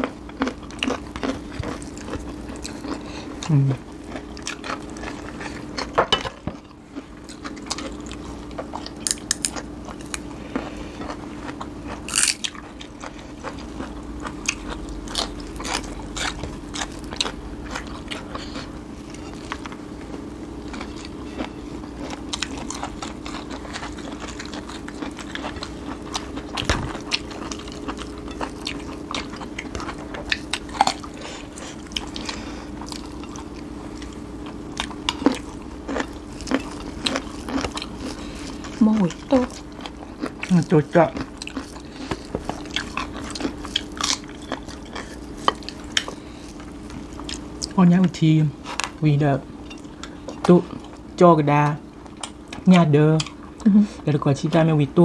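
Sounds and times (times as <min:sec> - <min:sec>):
people chewing and biting food: 0:00.0 - 0:49.0
steady low hum: 0:00.0 - 0:55.0.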